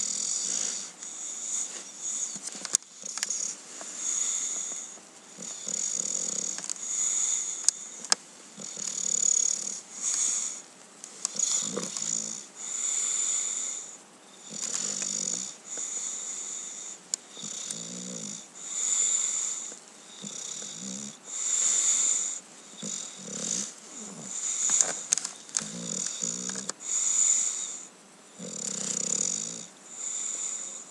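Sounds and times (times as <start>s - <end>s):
dog snoring: 0.0s - 30.9s
high hissing wheeze: 0.0s - 30.9s.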